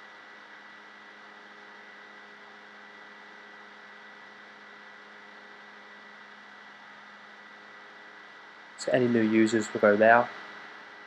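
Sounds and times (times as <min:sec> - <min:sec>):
electrical hum and hiss: 0:00.0 - 0:11.0
thin high whine: 0:00.0 - 0:11.0.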